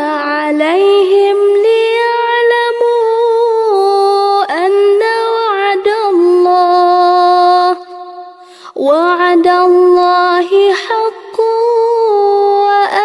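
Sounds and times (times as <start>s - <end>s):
woman reciting melodically: 0.0s - 13.0s.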